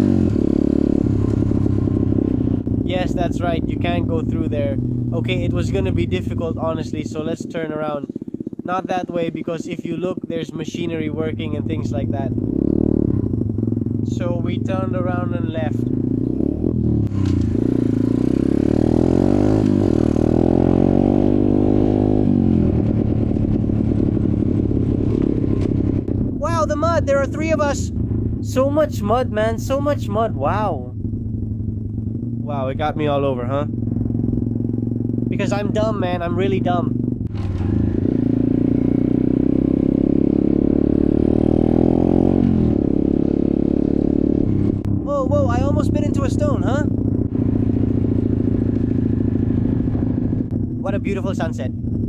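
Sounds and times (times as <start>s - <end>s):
dirt bike engine accelerating: 0.0s - 52.0s.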